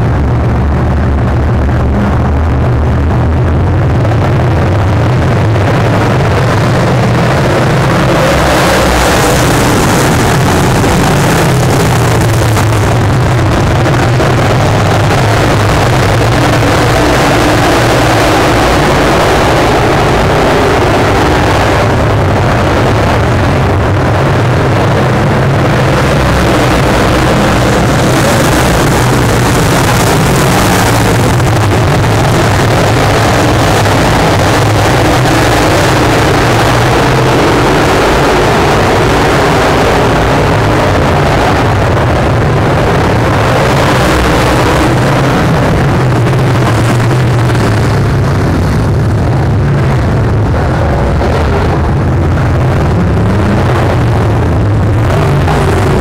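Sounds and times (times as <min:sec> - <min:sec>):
race car engines at speed: 0:00.0 - 0:56.0.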